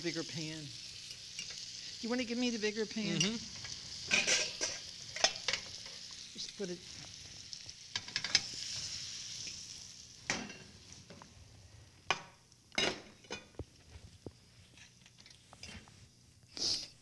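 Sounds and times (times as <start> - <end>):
fruit sizzling in butter: 0.0 - 17.0.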